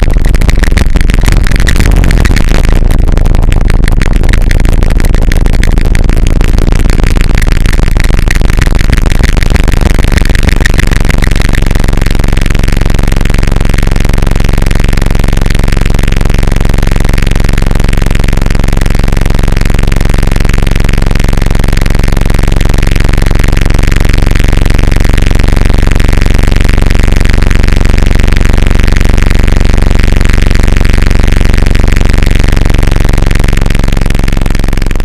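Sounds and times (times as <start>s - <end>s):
distorted noise music: 0.0s - 35.0s
low droning tones: 0.0s - 35.0s.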